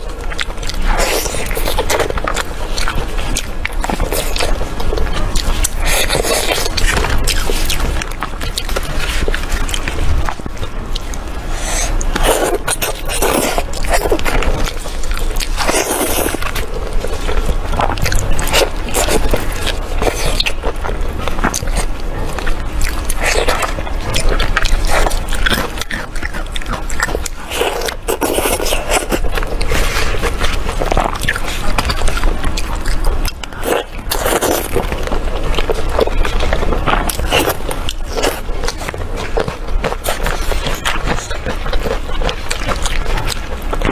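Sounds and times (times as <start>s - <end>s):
biting and chewing: 0.0s - 43.9s.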